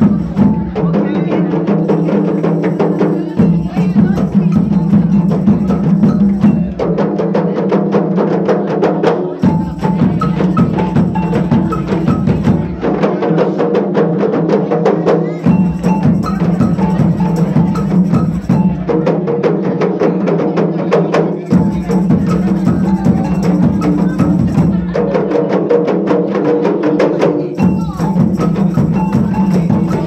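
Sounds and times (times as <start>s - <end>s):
rapid percussion music: 0.0s - 30.0s.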